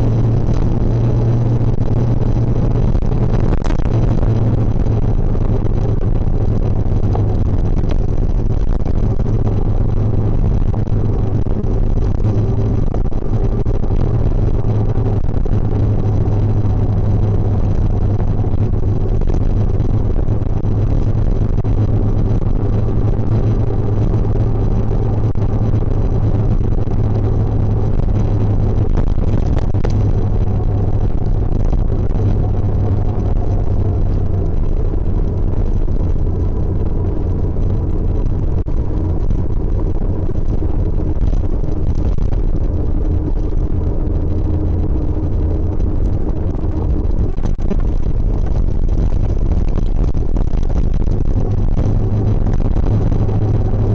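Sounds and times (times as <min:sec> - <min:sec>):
motorcycle engine running steadily: 0:00.0 - 0:53.9.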